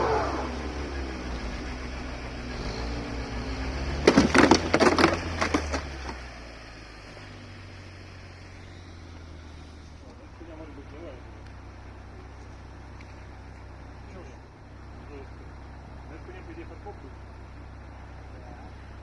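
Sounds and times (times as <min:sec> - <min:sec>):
engine running low and slow: 0:00.0 - 0:19.0.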